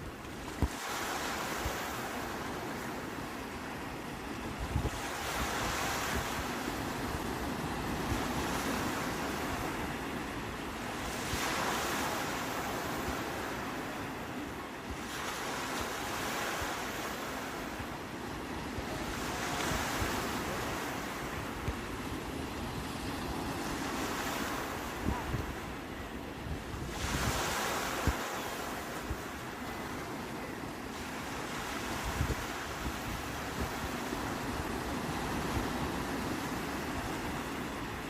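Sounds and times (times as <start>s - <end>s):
sea waves breaking ashore: 0.0s - 38.0s.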